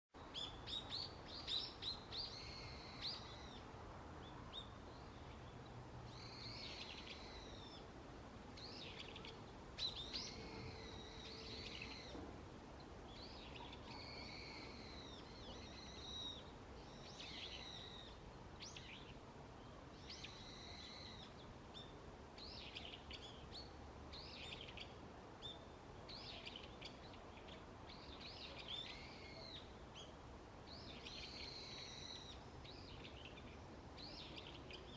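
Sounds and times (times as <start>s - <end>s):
faint background hiss: 0.2s - 34.9s.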